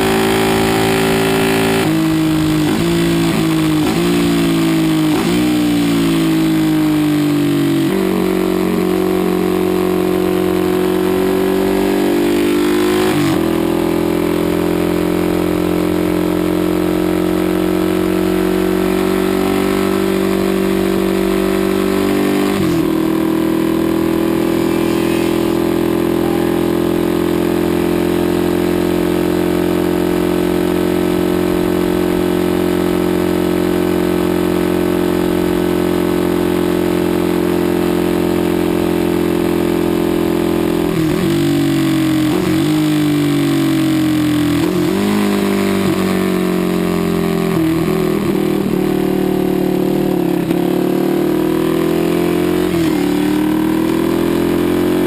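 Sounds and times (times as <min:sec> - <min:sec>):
racing motorcycle engine at full throttle: 0:00.0 - 0:55.0.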